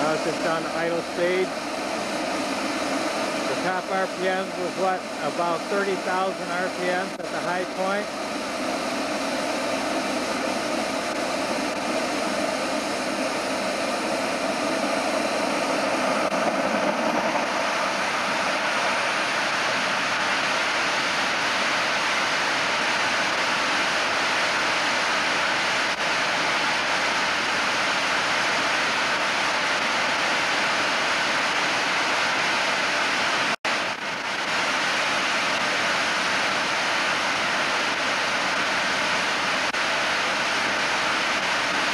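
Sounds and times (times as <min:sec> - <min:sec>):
gas turbine engine jet rush: 0:00.0 - 0:41.9.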